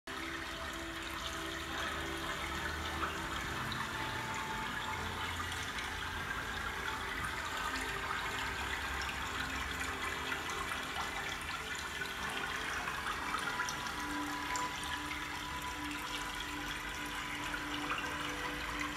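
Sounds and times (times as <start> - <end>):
running water rushing: 0.1 - 18.9.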